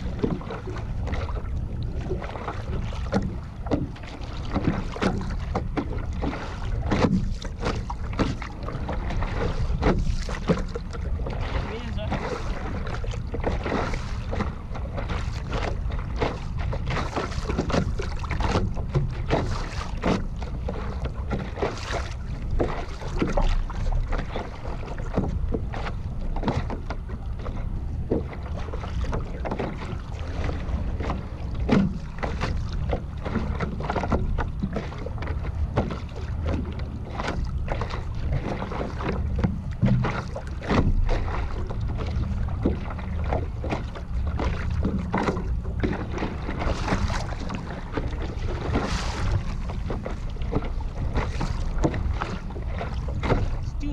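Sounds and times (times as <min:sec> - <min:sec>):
water splashing against paddleboard: 0:00.0 - 0:53.9.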